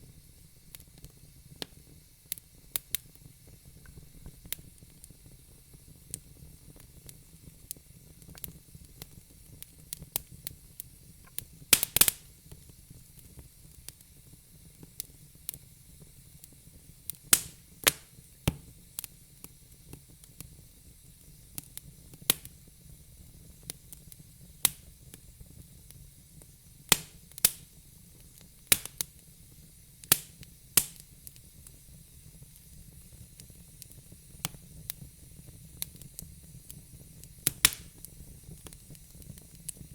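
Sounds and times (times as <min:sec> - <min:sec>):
burning logs crackling: 0:00.0 - 0:39.9
faint steady fire hiss: 0:00.0 - 0:39.9.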